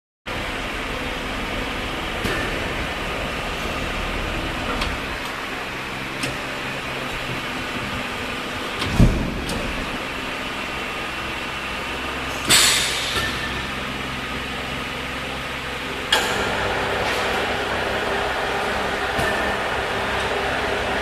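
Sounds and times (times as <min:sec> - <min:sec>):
machinery humming: 0:00.3 - 0:21.0.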